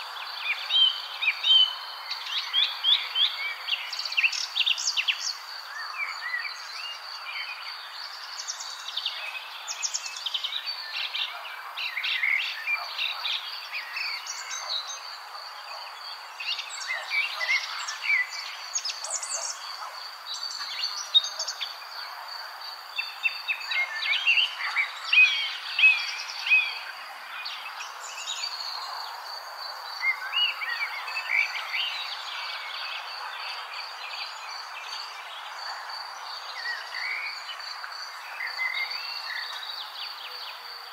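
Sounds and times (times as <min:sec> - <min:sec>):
birds chirping and singing: 0:00.0 - 0:40.9.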